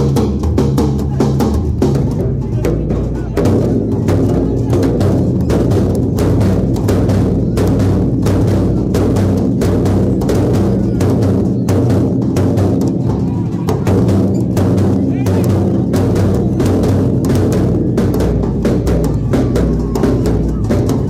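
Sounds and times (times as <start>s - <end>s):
dhol drums beaten fast: 0.0s - 21.0s.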